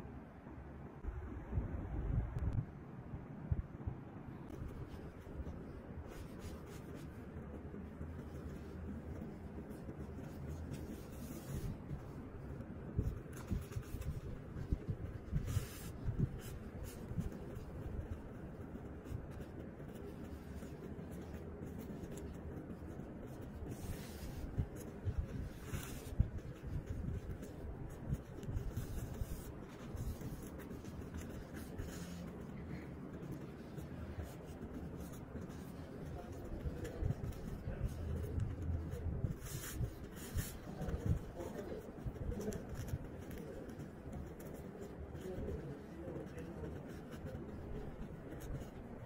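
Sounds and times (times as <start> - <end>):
necktie fabric rustling: 4.5 - 49.0.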